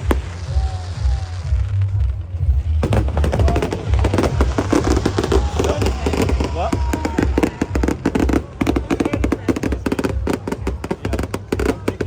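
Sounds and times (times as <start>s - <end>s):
fireworks booming: 0.0s - 12.0s
fireworks crackling: 0.0s - 12.0s
music playing: 0.0s - 12.0s.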